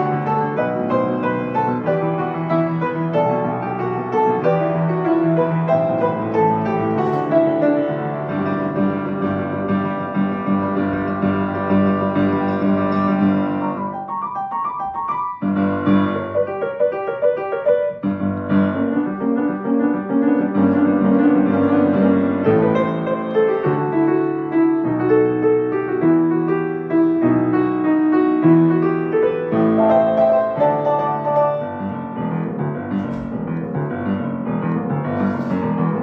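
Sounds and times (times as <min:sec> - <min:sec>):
grand piano playing: 0:00.0 - 0:36.0.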